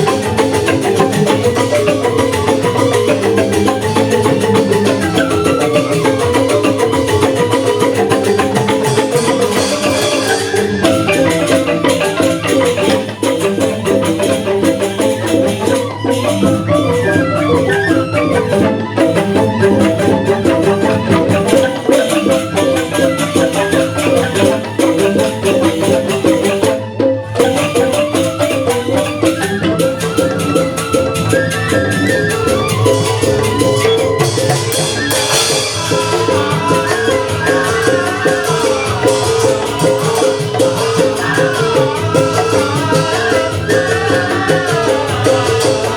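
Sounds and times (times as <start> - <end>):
bamboo xylophones playing: 0.0 - 45.9
percussion: 0.0 - 45.9.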